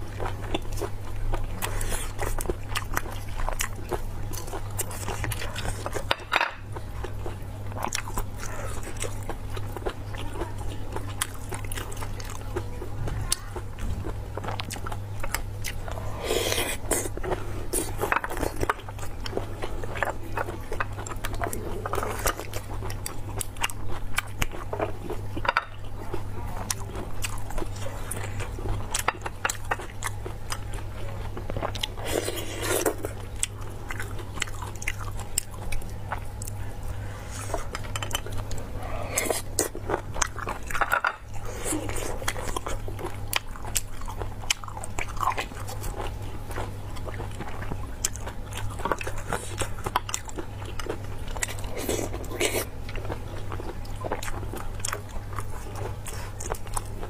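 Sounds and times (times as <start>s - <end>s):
person chewing: 0.0s - 57.0s
steady low hum: 0.0s - 57.0s.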